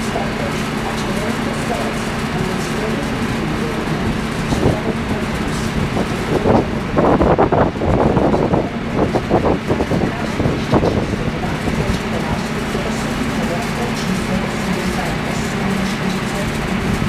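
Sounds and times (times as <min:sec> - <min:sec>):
low rumble of vehicles: 0:00.0 - 0:17.0.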